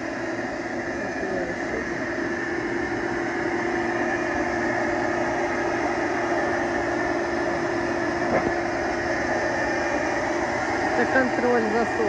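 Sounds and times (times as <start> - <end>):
bee vacuum motor drone: 0.0 - 12.0.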